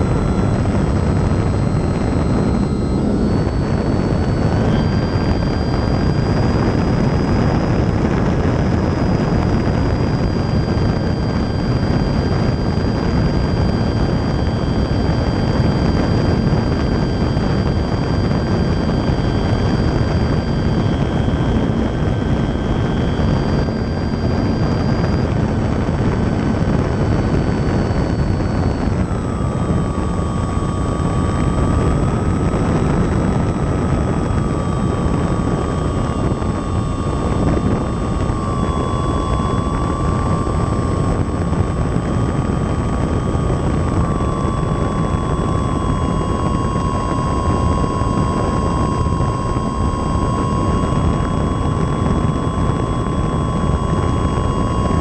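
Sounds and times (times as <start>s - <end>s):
model airplane motor whine: 0.0s - 55.0s.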